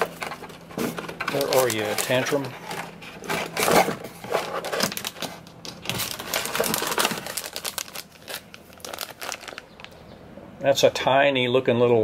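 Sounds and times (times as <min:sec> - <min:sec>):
plastic packages crinkling: 0:00.0 - 0:10.0.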